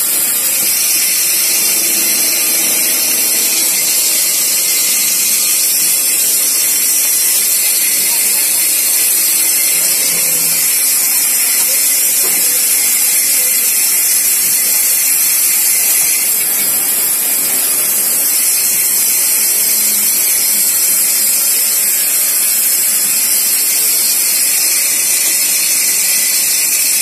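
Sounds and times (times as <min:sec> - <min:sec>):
lathe running with steady hiss: 0:00.0 - 0:27.0.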